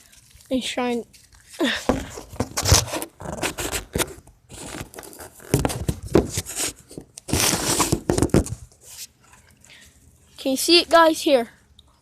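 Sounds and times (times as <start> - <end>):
handling rustling and crunching: 0.0 - 11.5.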